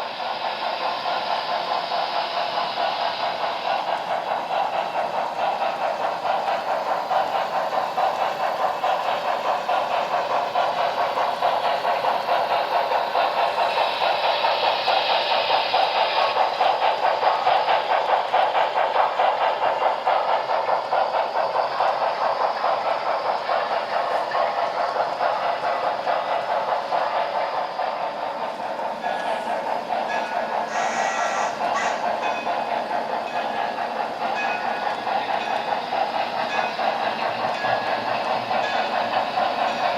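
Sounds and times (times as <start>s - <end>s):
model steam locomotive chuffing: 0.0s - 39.9s.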